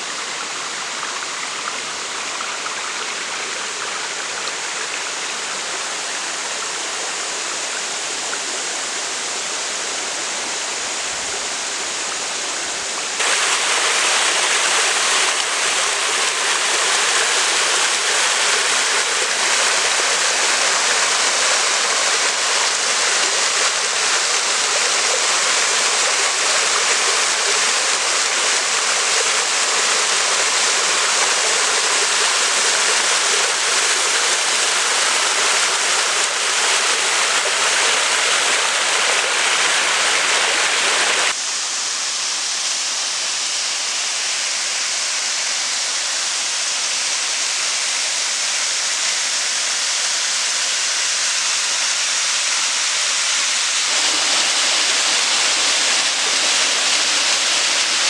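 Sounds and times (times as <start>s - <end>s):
waterfall splashing over rocks: 0.0s - 58.0s.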